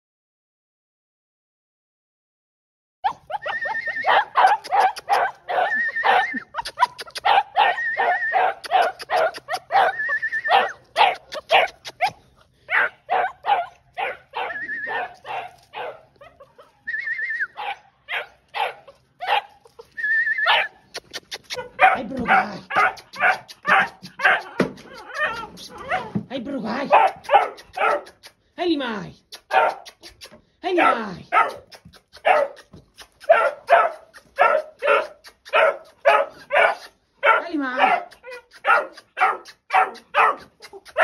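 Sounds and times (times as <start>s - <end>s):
puppy yelping and barking: 3.0s - 26.2s, 26.9s - 28.4s, 29.4s - 41.0s.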